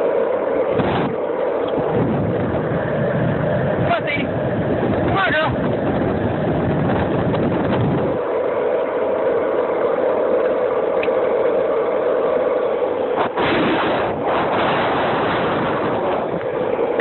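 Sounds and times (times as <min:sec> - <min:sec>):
steady hum: 0:00.0 - 0:17.0
wind buffeting microphone: 0:00.0 - 0:17.0.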